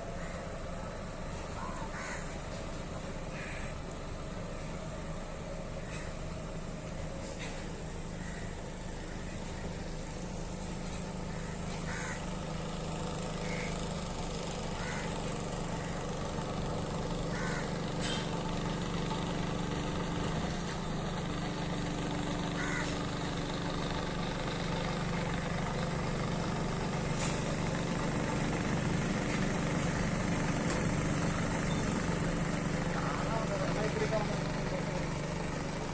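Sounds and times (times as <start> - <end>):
boat engine humming: 0.0 - 35.9
birds calling: 1.3 - 4.0, 5.7 - 6.5, 7.1 - 24.1, 24.7 - 35.7.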